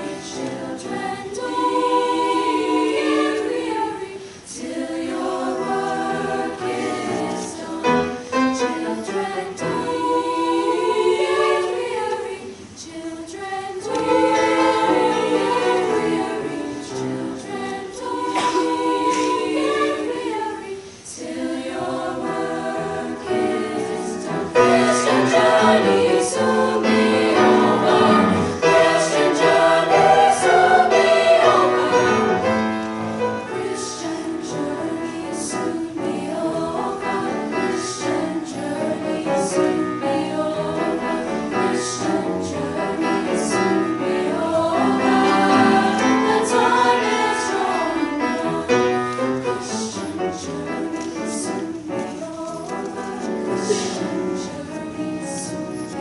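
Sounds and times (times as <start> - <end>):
choir singing a spiritual: 0.0 - 56.0
grand piano accompaniment: 0.0 - 56.0.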